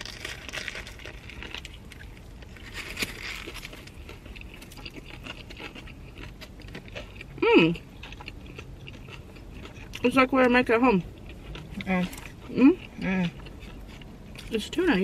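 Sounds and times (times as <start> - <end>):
chewing a sandwich: 0.0 - 14.8.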